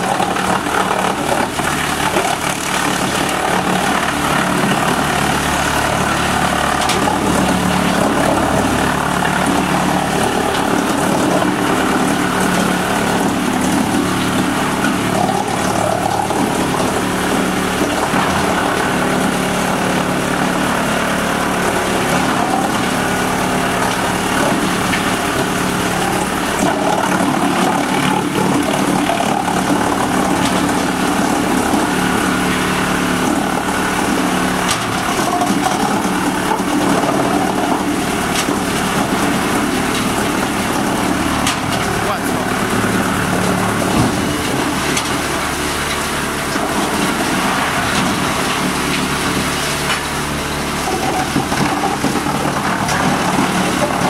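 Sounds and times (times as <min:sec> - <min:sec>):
wood chipper droning: 0:00.0 - 0:54.0.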